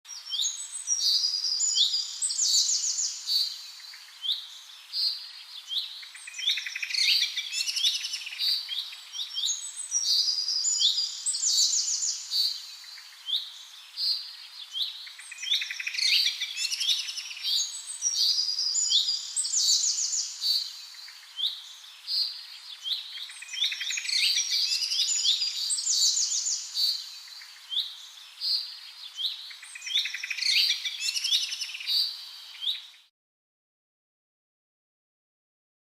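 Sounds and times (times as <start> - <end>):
songbirds chirping and singing: 0.1 - 33.1.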